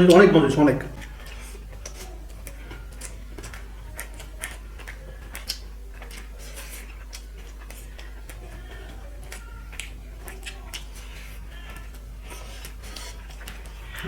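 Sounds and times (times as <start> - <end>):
chewing clicks and smacks: 0.9 - 14.0.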